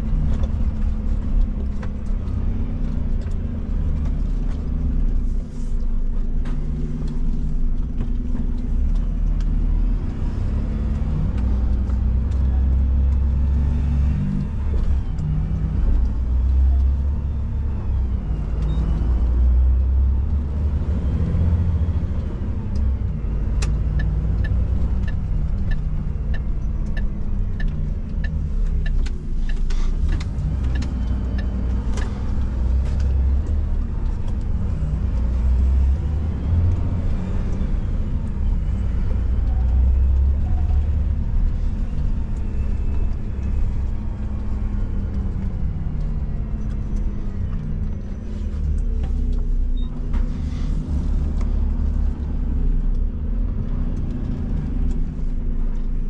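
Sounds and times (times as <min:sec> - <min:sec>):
diesel truck engine rumbling: 0:00.0 - 0:56.0.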